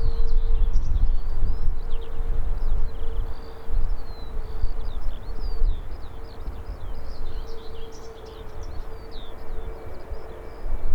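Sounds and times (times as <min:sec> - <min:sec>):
gusting low rumble: 0:00.0 - 0:10.9
steady low hum: 0:00.0 - 0:10.9
small birds chirping: 0:00.4 - 0:10.8.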